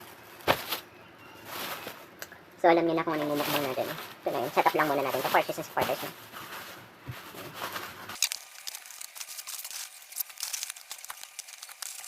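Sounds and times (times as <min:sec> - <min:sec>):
food packaging rustling and crinkling: 0:00.0 - 0:02.2, 0:03.0 - 0:12.0.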